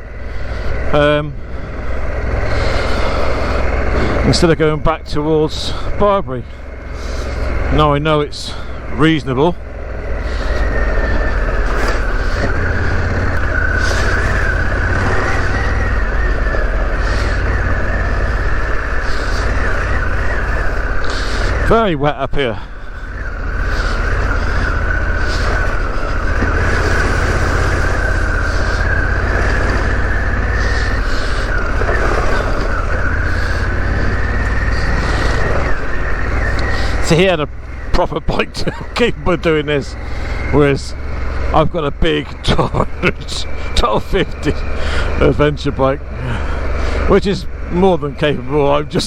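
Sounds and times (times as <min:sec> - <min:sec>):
high-pitched whine: 0:00.0 - 0:49.0
motorcycle engine running: 0:00.0 - 0:49.0.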